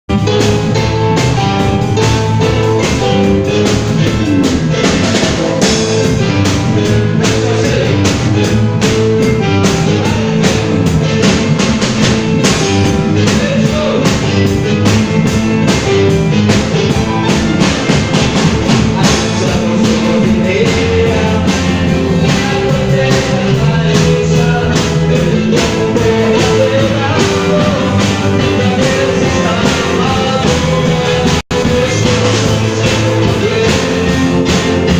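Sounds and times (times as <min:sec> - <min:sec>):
live band playing: 0:00.0 - 0:34.9
drum kit beat: 0:00.1 - 0:34.9.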